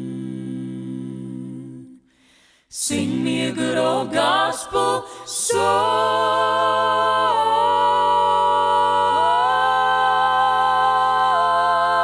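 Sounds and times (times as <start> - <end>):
a cappella vocal harmony: 0.0 - 12.0.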